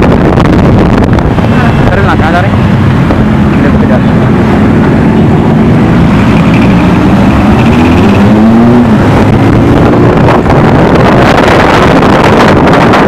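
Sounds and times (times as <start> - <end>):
road and wind noise: 0.0 - 13.0
motorcycle engine revving: 0.1 - 13.0.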